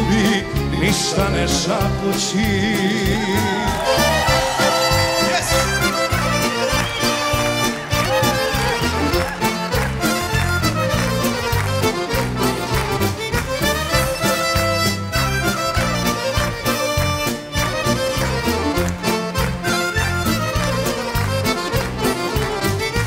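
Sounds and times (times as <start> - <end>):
accordion melody: 0.0 - 23.0
live folk band playing: 0.0 - 23.0.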